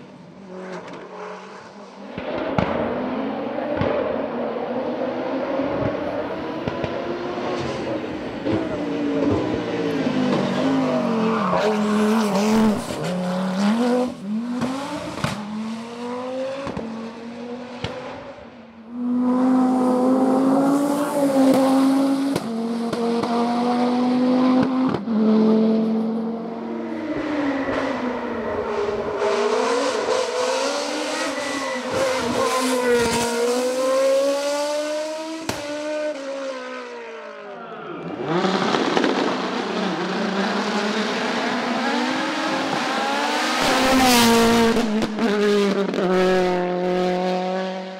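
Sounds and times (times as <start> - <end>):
racing car engines at full throttle: 0.0 - 47.9.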